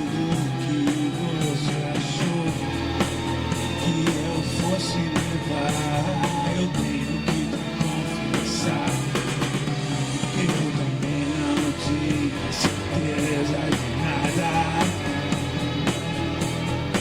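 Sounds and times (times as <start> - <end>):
rock band instrumental: 0.0 - 17.0.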